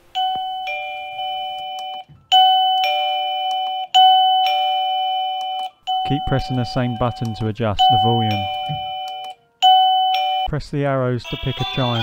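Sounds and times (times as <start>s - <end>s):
doorbell ding-dong chime: 0.1s - 10.6s.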